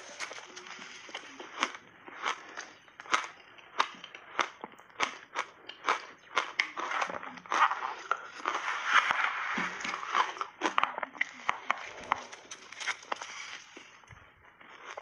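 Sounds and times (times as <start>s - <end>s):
crunching and chewing ice: 0.0s - 8.8s, 9.8s - 15.0s.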